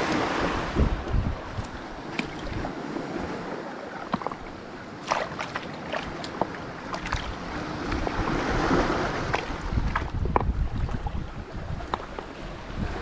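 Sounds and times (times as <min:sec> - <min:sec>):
small waves on rocky shore: 0:00.0 - 0:13.0.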